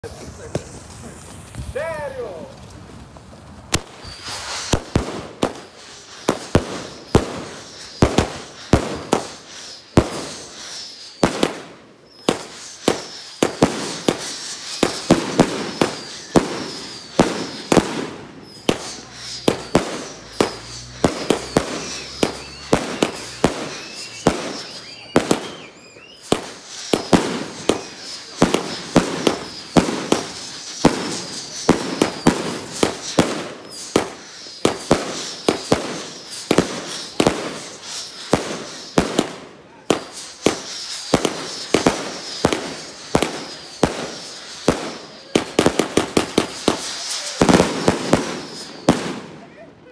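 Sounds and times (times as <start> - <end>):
firework bursts bangs: 0.0 - 49.9
firework shells launching: 3.7 - 49.5.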